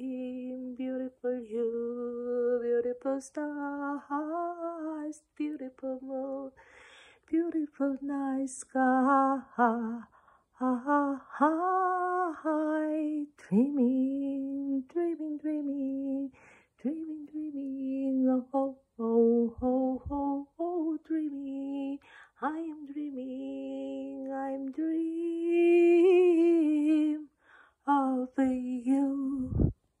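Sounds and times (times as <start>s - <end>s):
woman singing without words: 0.0s - 30.0s.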